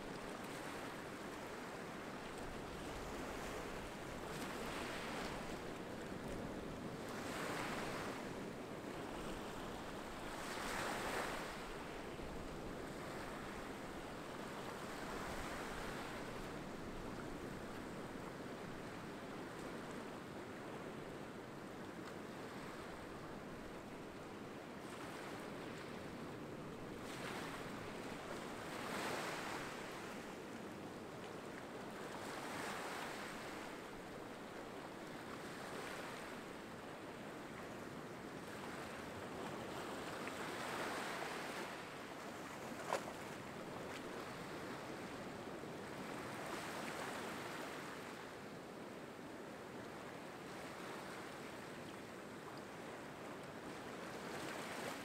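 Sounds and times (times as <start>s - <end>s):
small waves lapping on beach: 0.0s - 55.0s.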